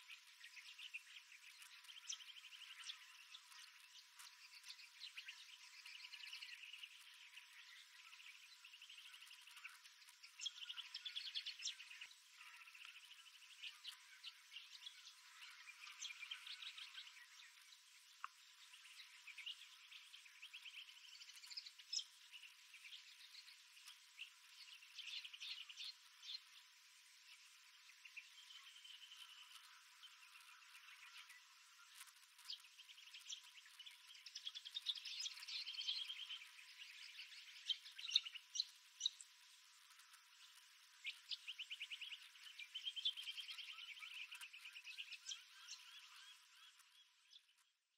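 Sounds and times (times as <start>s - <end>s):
birds chirping and trilling: 0.0s - 47.8s.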